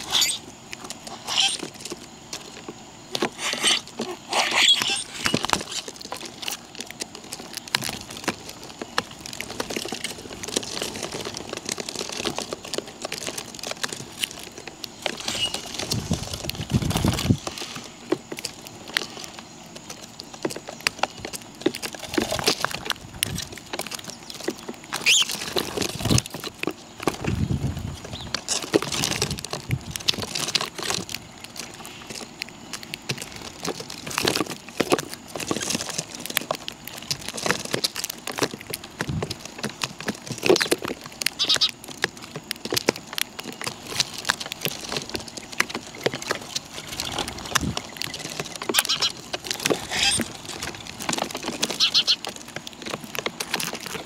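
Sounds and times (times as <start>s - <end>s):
birds pecking on hard surface: 0.0s - 54.0s.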